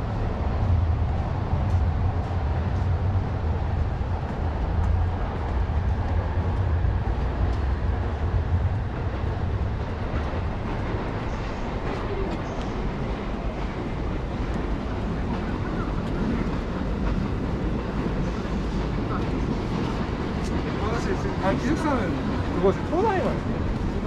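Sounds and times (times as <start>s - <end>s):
street noise: 0.0s - 24.0s.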